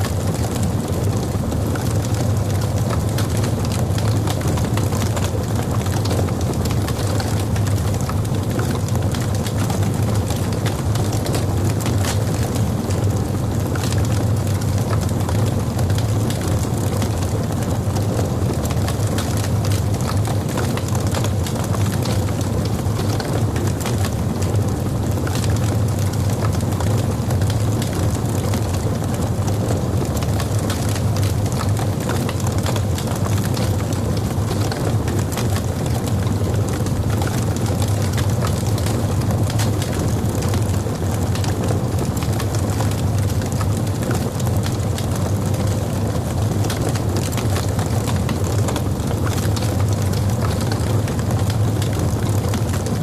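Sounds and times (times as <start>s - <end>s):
fireplace logs crackling and popping: 0.0s - 53.0s.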